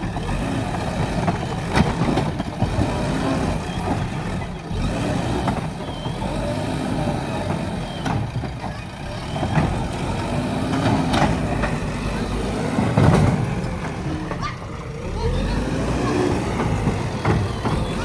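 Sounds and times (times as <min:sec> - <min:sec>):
diesel engine working under load: 0:00.0 - 0:18.0.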